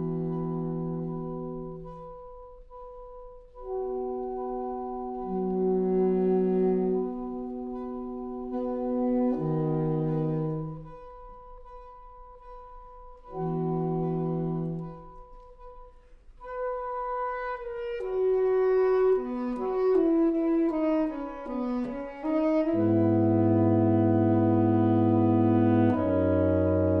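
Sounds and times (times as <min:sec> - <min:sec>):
saxophone quartet playing: 0:00.0 - 0:27.0.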